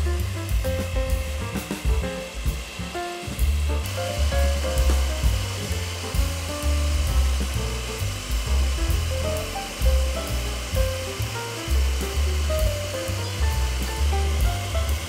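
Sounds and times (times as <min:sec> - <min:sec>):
background music with bass: 0:00.0 - 0:15.0
electric hand mixer running: 0:00.0 - 0:15.0.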